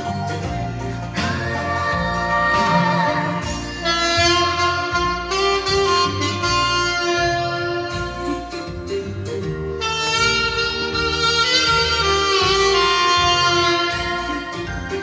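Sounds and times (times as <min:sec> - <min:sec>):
backing track with bass and drums: 0:00.0 - 0:15.0
saxophone melody: 0:00.0 - 0:15.0.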